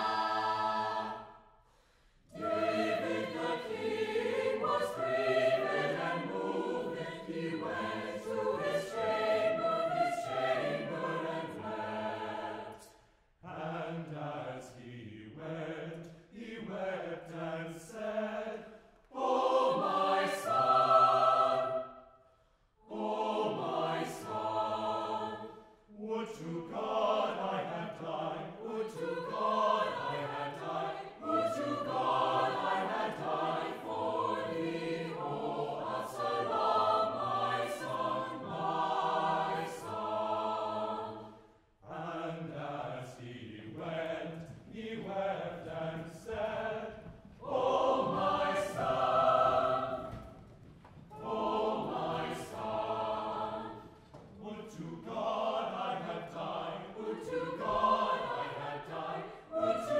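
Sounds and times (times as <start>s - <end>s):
choir singing: 0.0s - 50.4s, 51.1s - 59.9s.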